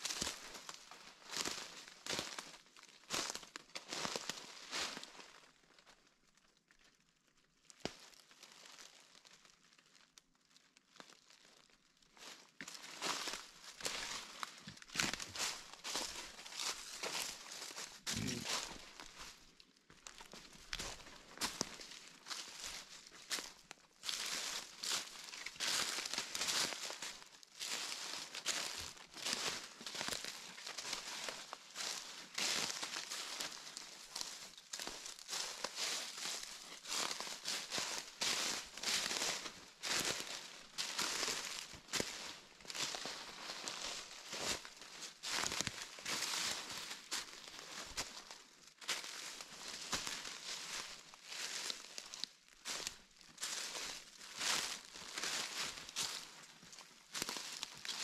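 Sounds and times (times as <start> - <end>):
dry leaves crackling underfoot: 0.0 - 6.1, 7.8 - 58.0.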